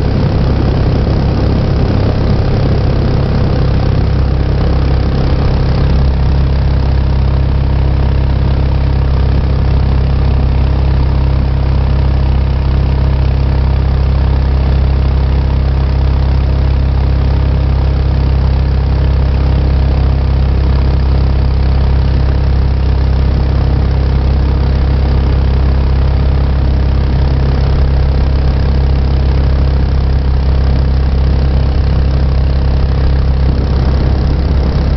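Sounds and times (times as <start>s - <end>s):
boat engine running loud: 0.0s - 34.9s.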